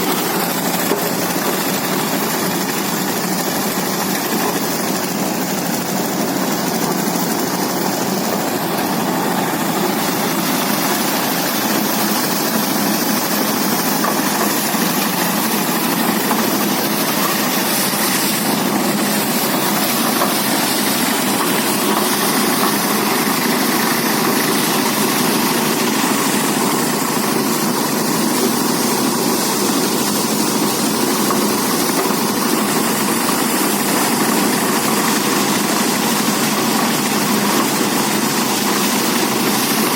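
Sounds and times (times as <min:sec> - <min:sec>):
threshing machine running: 0:00.0 - 0:39.9.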